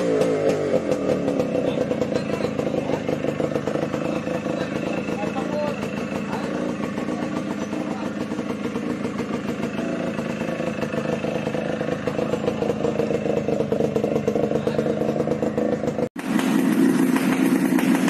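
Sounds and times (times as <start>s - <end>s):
two-stroke motorcycle engine running: 0.0s - 18.0s.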